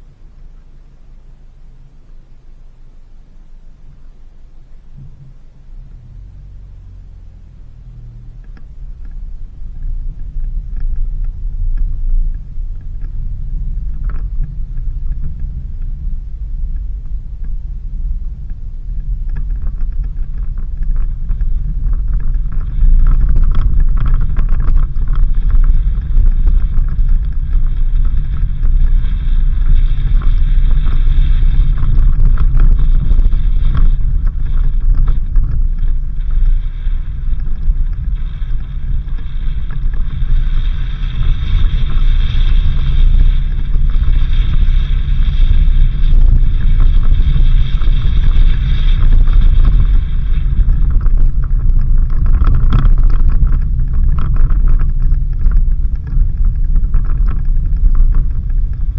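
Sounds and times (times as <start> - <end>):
engine and road rumble: 0.0 - 58.9
small rattles and knocks: 3.8 - 58.9
tyre noise: 3.9 - 58.9.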